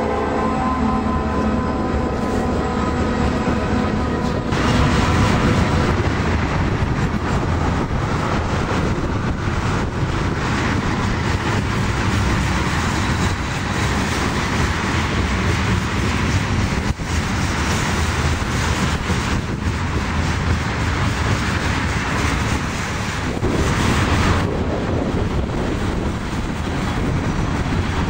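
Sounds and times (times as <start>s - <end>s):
diesel locomotives passing: 0.0s - 28.0s
train cars rumbling on rails: 0.0s - 28.0s.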